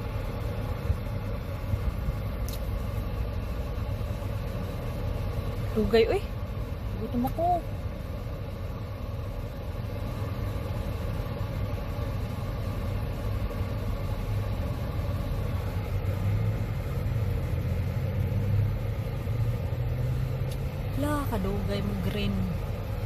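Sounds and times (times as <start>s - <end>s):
car idling low rumble: 0.0s - 23.0s
traffic passing: 0.0s - 23.0s.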